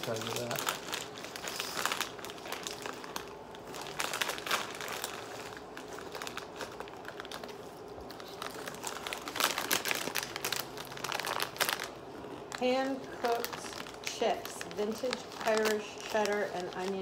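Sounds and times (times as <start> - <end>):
crisp packet crinkling: 0.0 - 17.0.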